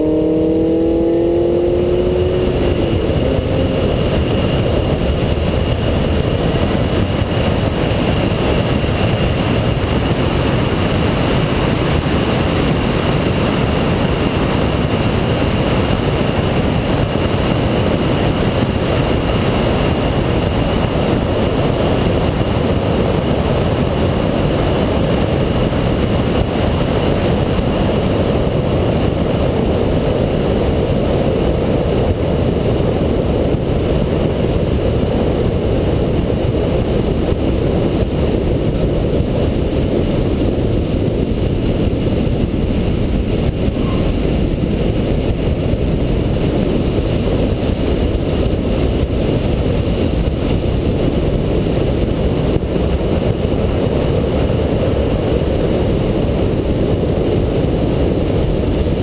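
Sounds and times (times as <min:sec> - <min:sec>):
car engine: 0:00.0 - 0:51.5
wind noise: 0:00.0 - 0:59.0.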